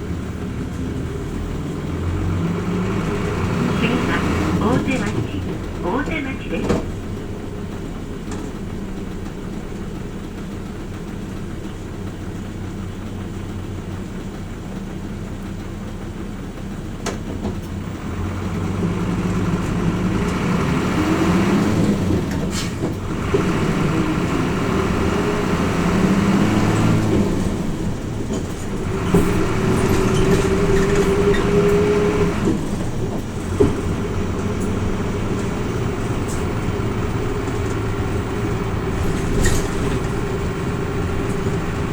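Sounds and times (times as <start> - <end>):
bus diesel engine: 0.0 - 41.9.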